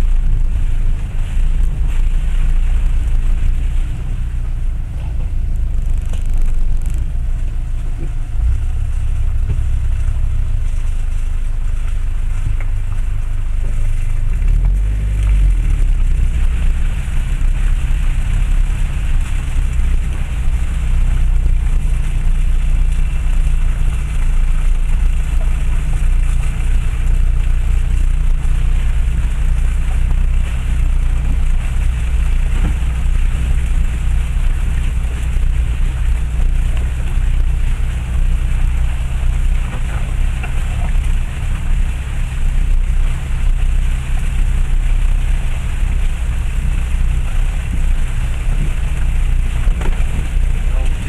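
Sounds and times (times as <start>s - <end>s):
diesel engine and tyres rumbling: 0.0s - 51.0s.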